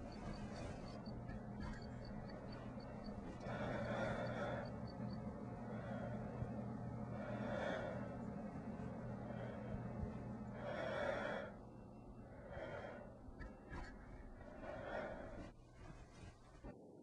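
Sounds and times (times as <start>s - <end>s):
person breathing heavily: 0.0s - 16.6s
low steady hum: 0.0s - 17.0s.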